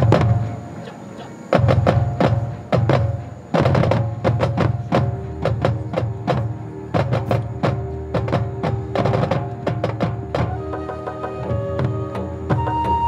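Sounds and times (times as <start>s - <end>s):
deep drum strokes: 0.0s - 13.0s
marching band percussion: 0.0s - 13.0s.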